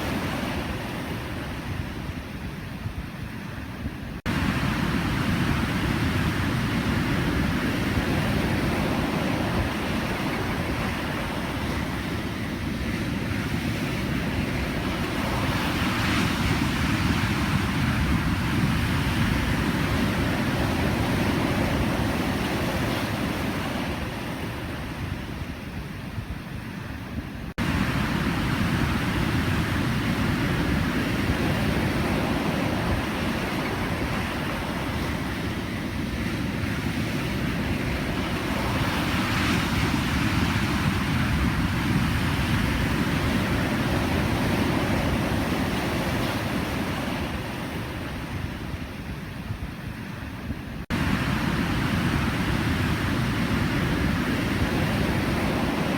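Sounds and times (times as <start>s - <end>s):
waves breaking and washing in: 0.0s - 55.9s.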